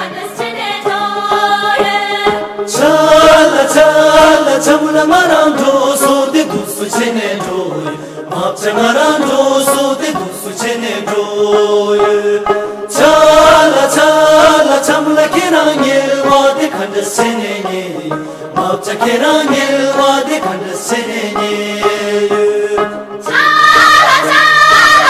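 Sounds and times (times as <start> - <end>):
group singing folk song: 0.0 - 25.0.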